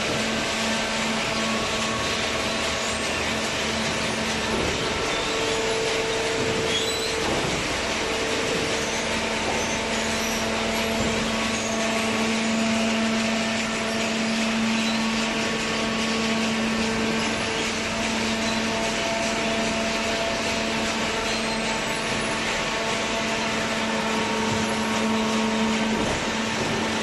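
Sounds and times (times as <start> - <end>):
baler machine droning: 0.0 - 27.0.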